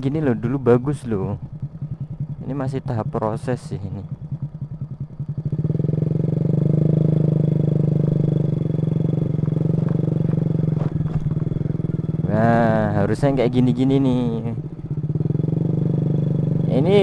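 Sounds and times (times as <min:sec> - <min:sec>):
scooter engine pulling under throttle: 0:00.6 - 0:17.0.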